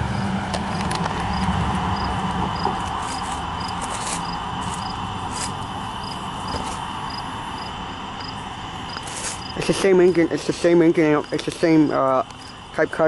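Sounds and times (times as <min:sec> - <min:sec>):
freight train rolling past: 0:00.0 - 0:11.0
cricket chirping: 0:00.0 - 0:13.0.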